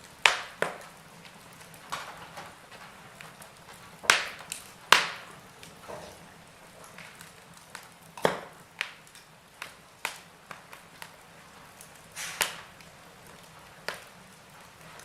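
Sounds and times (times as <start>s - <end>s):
fire hissing: 0.0s - 15.0s
logs crackling in fireplace: 0.0s - 15.0s.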